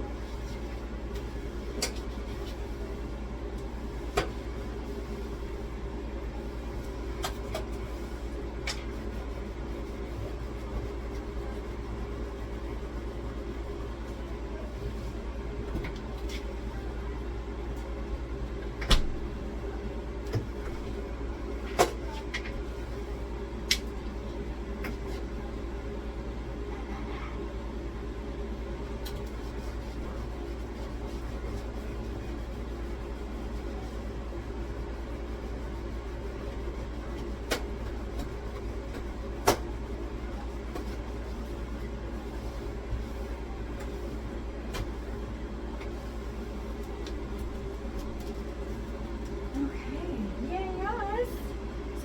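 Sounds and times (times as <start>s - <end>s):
low refrigerator hum: 0.0s - 52.0s.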